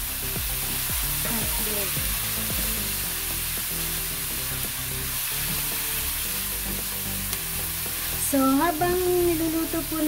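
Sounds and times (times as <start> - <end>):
background music: 0.0 - 10.0
food sizzling in a metal wok: 0.0 - 10.0.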